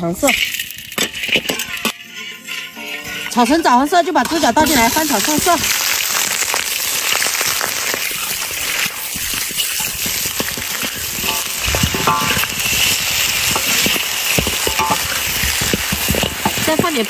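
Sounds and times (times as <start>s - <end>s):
meat sizzling in hot oil: 0.3s - 17.0s
spatula scraping and knocking pan: 0.3s - 17.0s.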